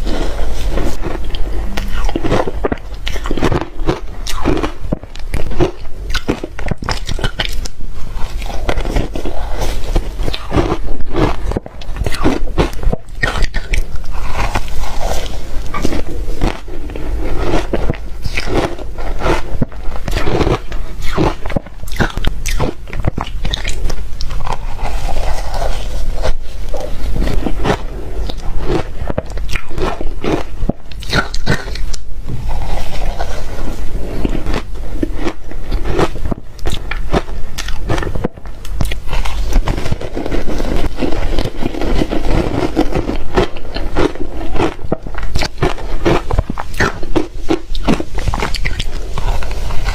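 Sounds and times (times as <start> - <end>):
ice crunching being chewed: 0.0 - 49.9.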